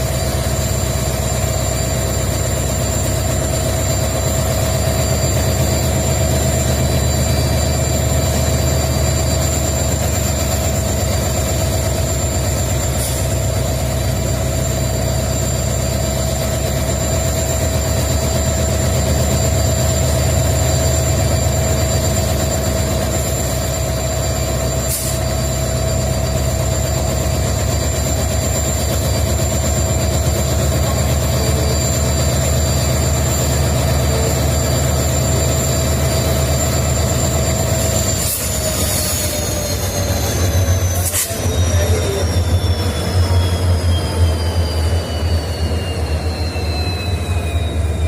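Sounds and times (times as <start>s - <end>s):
diesel locomotive engine hum: 0.0s - 48.0s
high-pitched whines: 0.0s - 48.0s.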